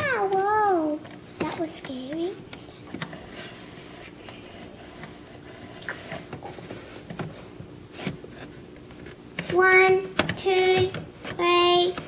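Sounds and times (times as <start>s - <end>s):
faint clicks and knocks: 0.0s - 12.0s.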